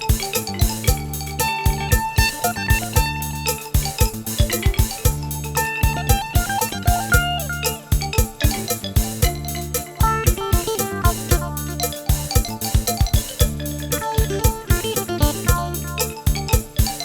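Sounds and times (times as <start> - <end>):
bright plucked melody: 0.0 - 17.0
quick drum beat: 0.0 - 17.0
sustained bass: 0.0 - 17.0.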